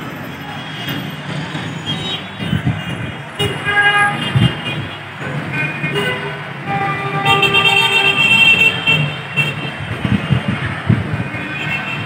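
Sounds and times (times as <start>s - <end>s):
street traffic: 0.0s - 12.0s
car horns tooting: 0.4s - 12.0s.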